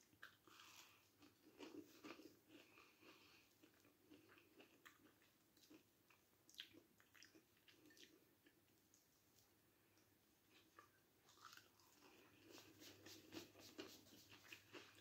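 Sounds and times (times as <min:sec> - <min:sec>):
chewing with mouth clicks: 0:00.0 - 0:09.1, 0:10.5 - 0:15.0.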